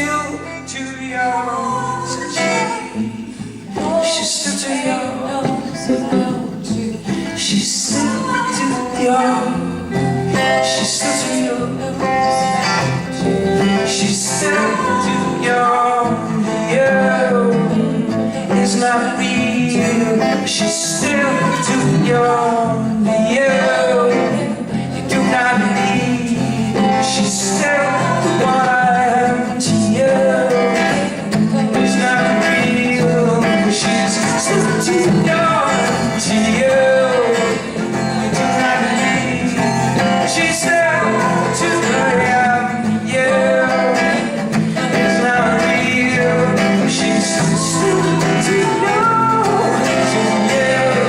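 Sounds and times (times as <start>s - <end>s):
acoustic guitar: 0.0s - 51.0s
person singing: 0.0s - 51.0s.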